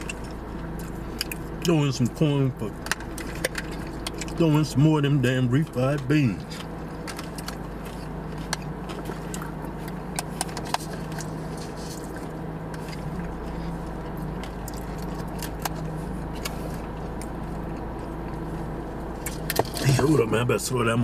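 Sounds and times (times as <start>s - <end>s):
low car cabin hum: 0.0s - 21.0s.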